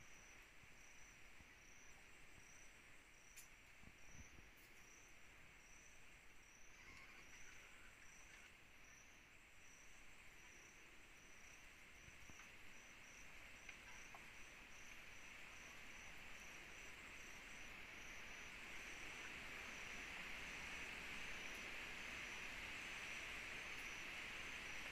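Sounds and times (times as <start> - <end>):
cricket chirping: 0.0 - 24.9
hissing insect chorus: 0.0 - 24.9.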